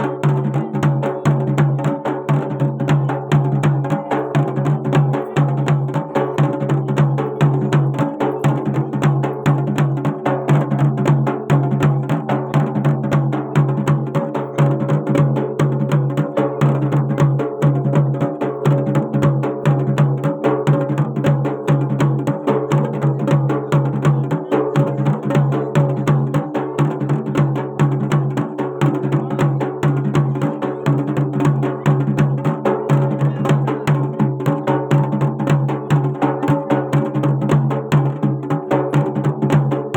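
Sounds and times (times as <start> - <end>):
fast steady drumming: 0.0 - 39.9.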